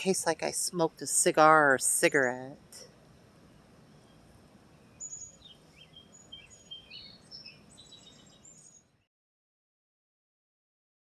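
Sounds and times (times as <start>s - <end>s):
faint low background noise: 0.0s - 9.1s
songbirds chirping: 0.0s - 9.1s.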